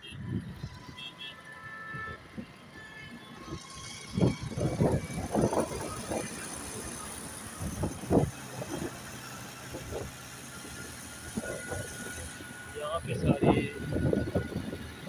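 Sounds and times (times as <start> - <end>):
motorcycle engine and road noise: 0.0 - 15.0
wind buffeting microphone: 0.2 - 0.9, 3.4 - 15.0.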